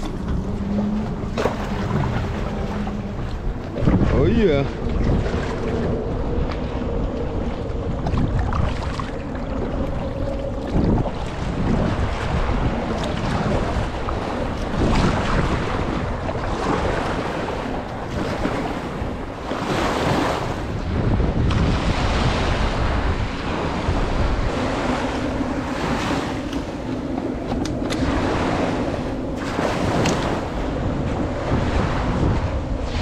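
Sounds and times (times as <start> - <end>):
small surf waves washing: 0.0 - 33.0
wind on microphone: 0.0 - 33.0.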